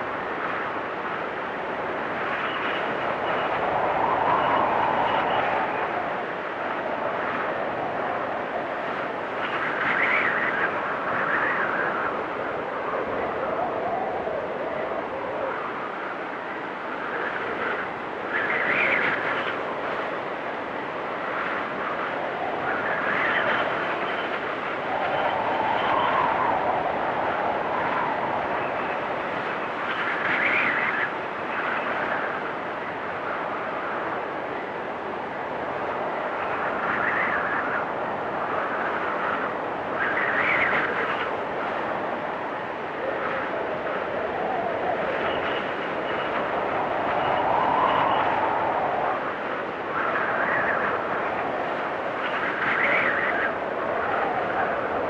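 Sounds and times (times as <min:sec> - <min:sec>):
storm wind rushing: 0:00.0 - 0:55.0
wind whistling: 0:00.0 - 0:55.0.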